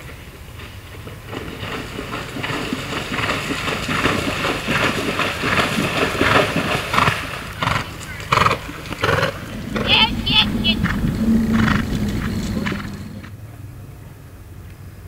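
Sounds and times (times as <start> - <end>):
horse hooves splashing water: 0.0 - 13.3.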